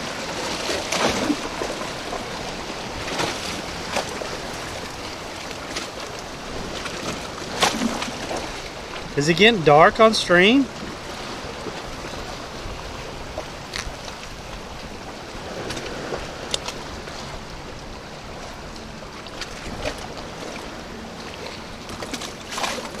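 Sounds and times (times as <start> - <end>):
sea water lapping and splashing: 0.0 - 23.0.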